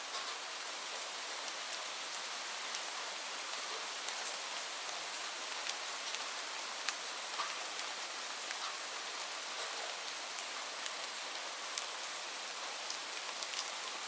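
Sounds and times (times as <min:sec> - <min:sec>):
rain pattering on leaves: 0:00.0 - 0:14.0.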